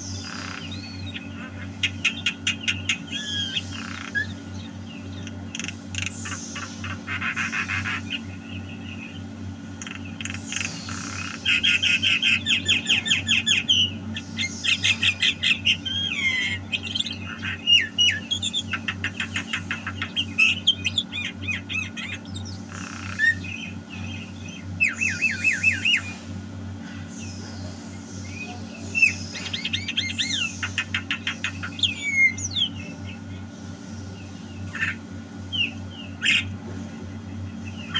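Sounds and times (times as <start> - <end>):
bird singing trilled notes: 0.0 - 37.9
steady low hum: 0.0 - 37.9.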